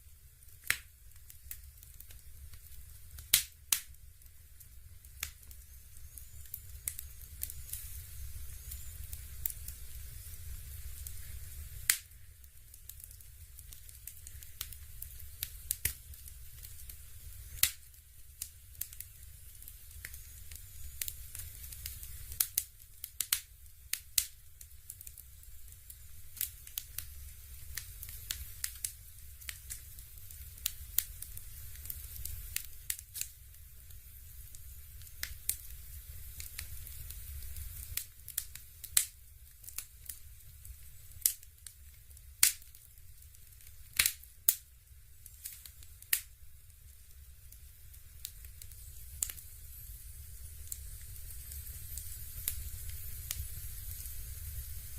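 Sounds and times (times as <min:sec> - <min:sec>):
fireplace crackling: 0:00.0 - 0:54.9
low steady hum: 0:00.0 - 0:54.9.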